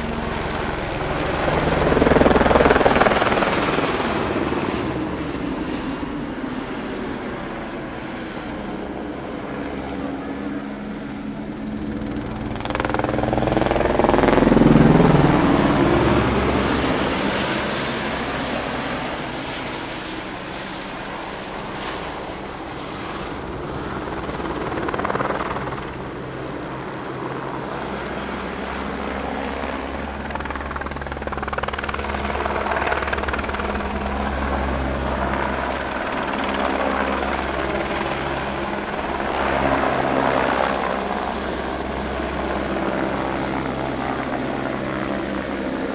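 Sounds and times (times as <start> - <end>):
aircraft passing: 0.0 - 45.9.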